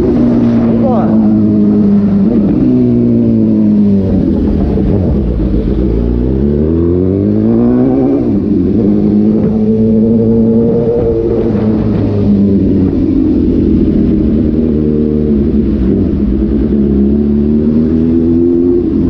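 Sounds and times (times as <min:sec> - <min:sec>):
motorcycle engine revving on road: 0:00.0 - 0:19.0.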